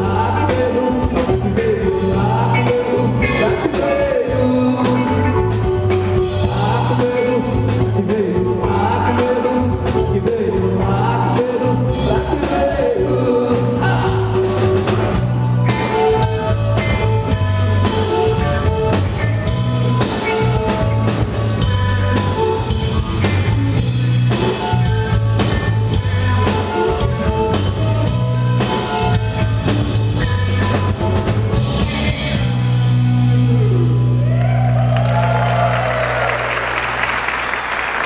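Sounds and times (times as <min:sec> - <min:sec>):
drum kit: 0:00.0 - 0:34.6
electric guitars: 0:00.0 - 0:37.0
bass line: 0:00.0 - 0:38.0.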